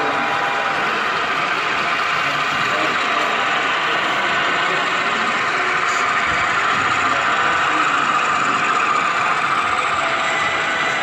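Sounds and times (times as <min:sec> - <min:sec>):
model diesel locomotive engine: 0:00.0 - 0:11.0.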